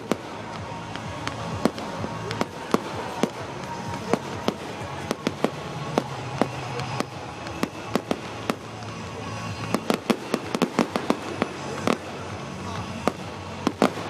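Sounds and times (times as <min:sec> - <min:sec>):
fireworks bangs and pops: 0:00.0 - 0:14.0
music playing: 0:00.0 - 0:14.0.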